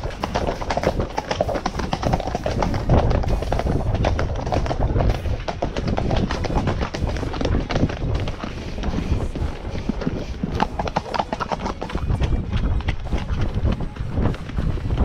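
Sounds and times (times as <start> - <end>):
horse hooves clopping on earth: 0.0 - 15.0.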